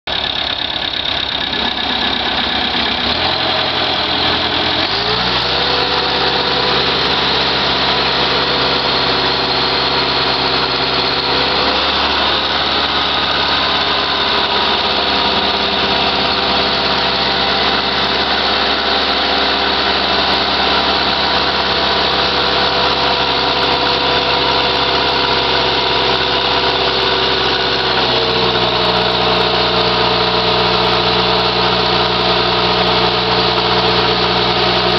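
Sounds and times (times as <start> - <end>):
diesel tractor engine running: 0.0 - 34.9.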